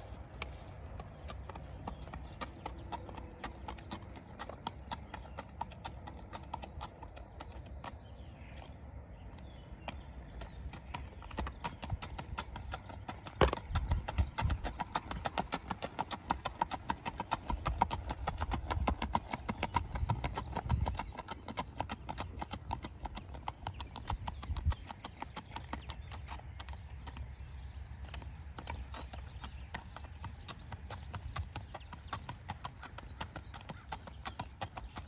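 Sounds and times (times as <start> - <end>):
horse hooves clip-clopping on asphalt: 0.0 - 35.0.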